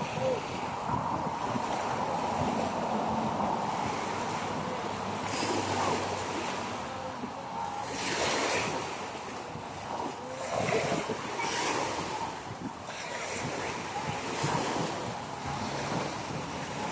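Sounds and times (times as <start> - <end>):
small waves washing on shore: 0.0 - 16.9
wind buffeting microphone: 0.0 - 16.9.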